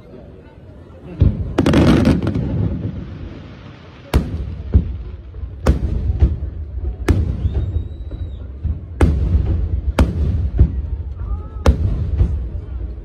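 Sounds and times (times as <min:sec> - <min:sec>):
fireworks booms: 0:01.2 - 0:13.0
fireworks crackling burst: 0:01.2 - 0:13.0.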